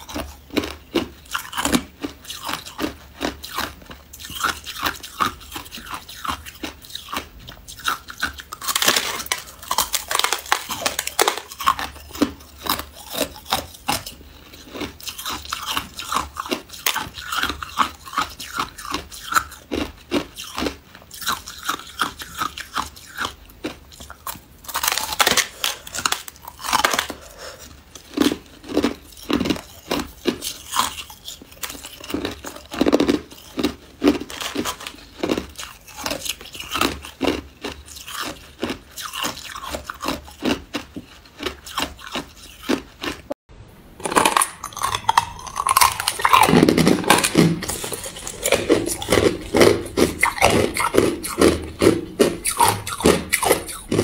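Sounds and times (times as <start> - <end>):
ice being chewed: 0.0 - 43.4, 44.0 - 54.0.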